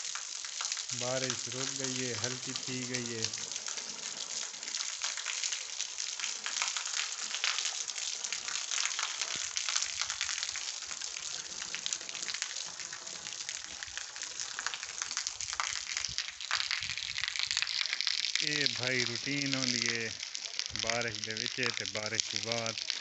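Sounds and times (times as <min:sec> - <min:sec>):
light rain pattering: 0:00.0 - 0:23.0.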